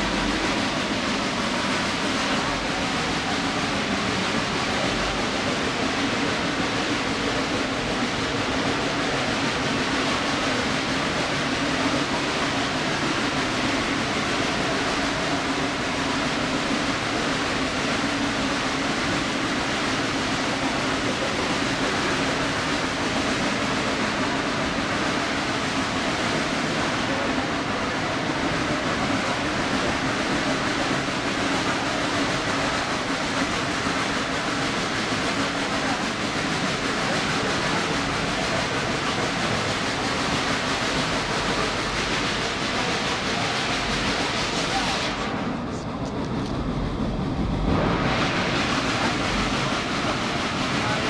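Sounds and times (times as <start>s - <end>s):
train rolling on rails: 0.0s - 51.0s.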